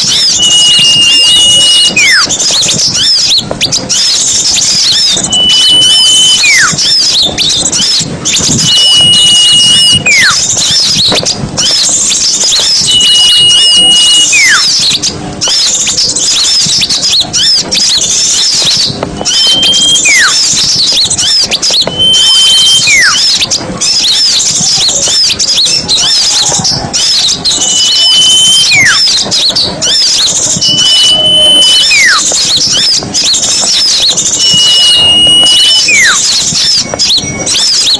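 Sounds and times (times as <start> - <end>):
clear steady whistle: 0.0 - 37.9
falling whistle: 0.0 - 37.9
songbirds chirping: 0.0 - 37.9.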